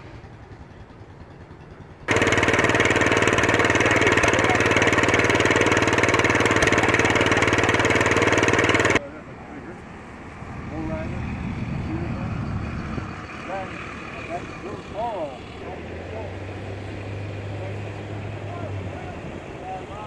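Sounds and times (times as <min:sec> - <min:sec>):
small tractor engine running: 0:00.0 - 0:09.0, 0:09.8 - 0:20.0
faint engine hum: 0:00.0 - 0:20.0.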